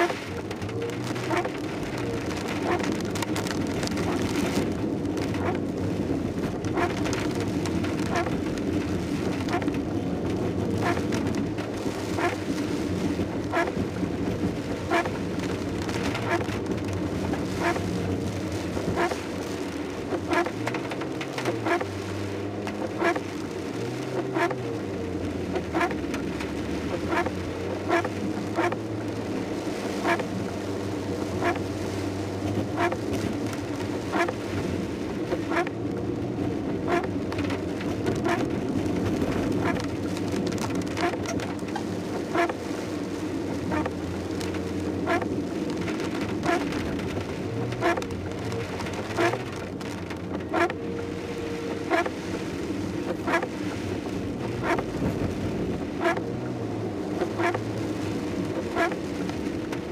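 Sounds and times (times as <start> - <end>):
car engine and tyre hum: 0.0 - 59.9
rain on a car: 0.0 - 59.9
windscreen wipers ticking: 0.0 - 59.9.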